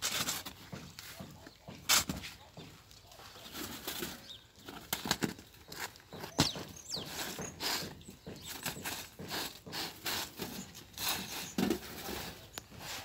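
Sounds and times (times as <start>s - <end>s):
loaves scraping metal tray: 0.0s - 1.2s, 3.3s - 13.0s.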